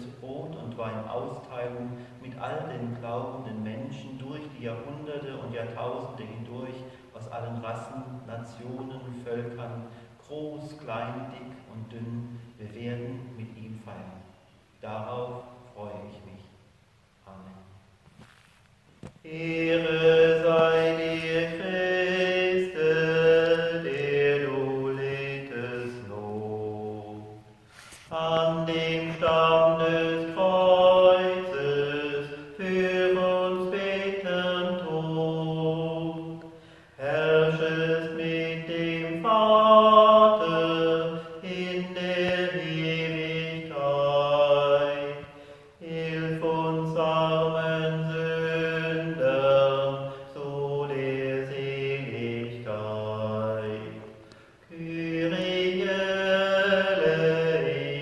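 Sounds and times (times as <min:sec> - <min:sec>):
man chanting unaccompanied: 0:00.0 - 0:16.6, 0:19.2 - 0:58.0.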